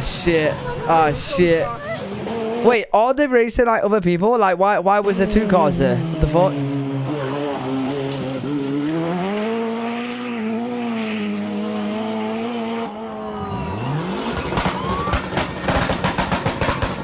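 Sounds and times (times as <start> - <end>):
rally car engine revving: 0.0 - 2.9, 5.0 - 17.0.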